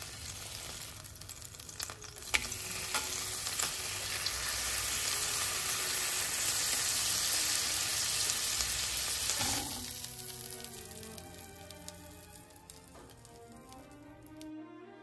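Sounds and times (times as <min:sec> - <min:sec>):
patty sizzling in grill pan: 0:00.0 - 0:14.4.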